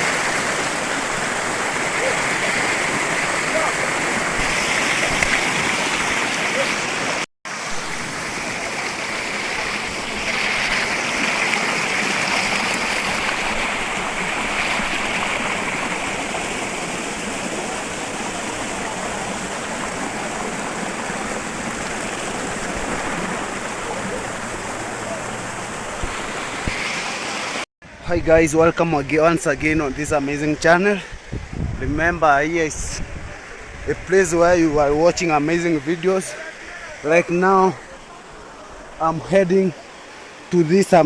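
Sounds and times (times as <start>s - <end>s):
waterfall roaring: 0.0s - 27.6s, 33.4s - 41.0s.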